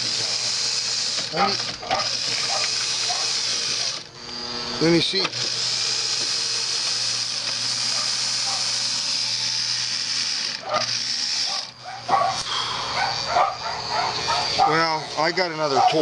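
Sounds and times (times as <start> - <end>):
sewing machine motor whirring: 0.0 - 16.0.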